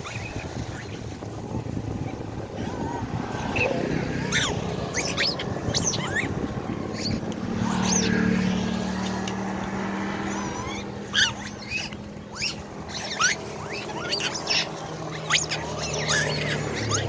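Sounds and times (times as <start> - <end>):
low road rumble: 0.0 - 17.0
motorcycle engine humming: 0.0 - 17.0
macaques squeaking: 2.6 - 17.0.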